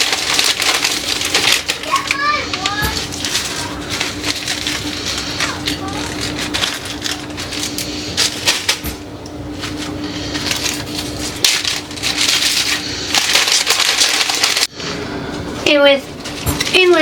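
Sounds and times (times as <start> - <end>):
plastic chip bags crinkling: 0.0 - 8.9, 9.5 - 14.7, 16.2 - 17.0.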